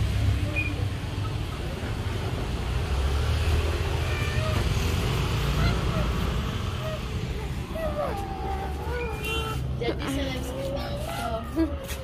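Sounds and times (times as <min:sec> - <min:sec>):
motorbike riding past: 0:00.4 - 0:11.2.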